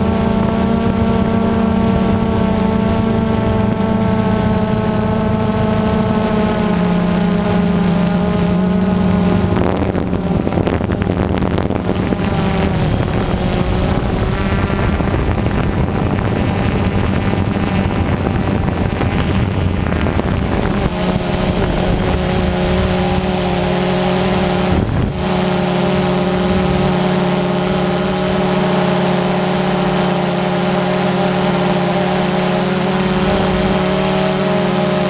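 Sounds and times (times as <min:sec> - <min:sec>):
drone propellers humming: 0:00.0 - 0:35.0.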